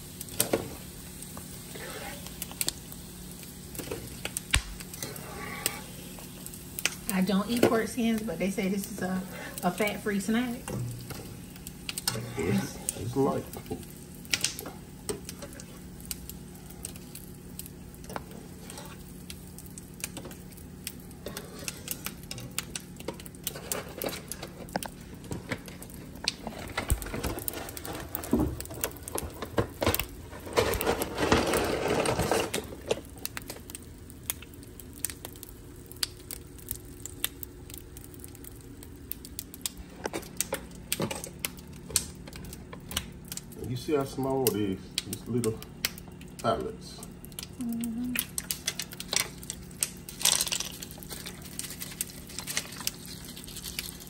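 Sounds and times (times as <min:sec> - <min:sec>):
faint steady hum: 0:00.0 - 0:54.0
frying oil crackling and popping: 0:00.0 - 0:54.0.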